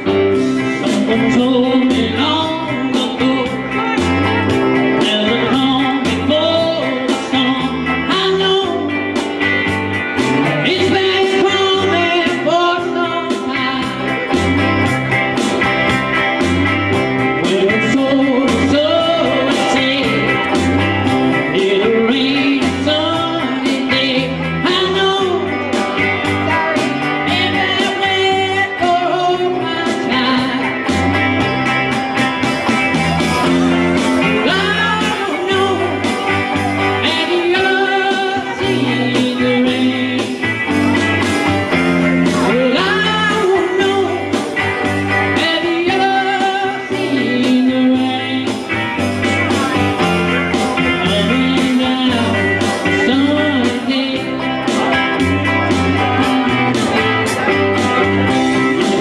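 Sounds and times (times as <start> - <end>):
man singing into a microphone: 0.0 - 31.6, 33.0 - 59.0
bass line: 0.0 - 59.0
electric guitar: 0.0 - 59.0
steady beat: 0.0 - 59.0.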